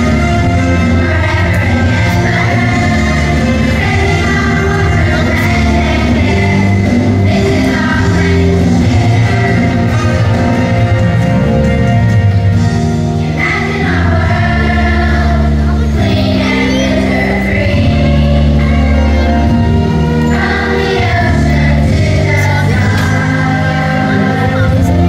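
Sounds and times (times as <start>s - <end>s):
choir-like group singing: 0.0s - 11.6s, 12.9s - 25.0s
sustained low bass notes: 0.0s - 25.0s.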